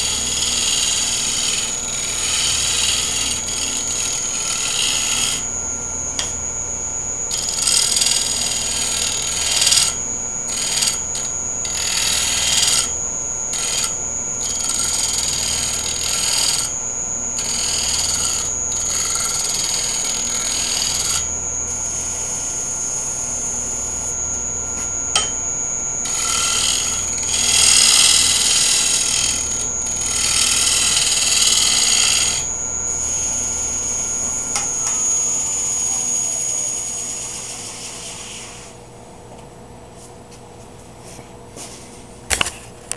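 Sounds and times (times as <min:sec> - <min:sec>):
wood lathe whining: 0:00.0 - 0:38.9.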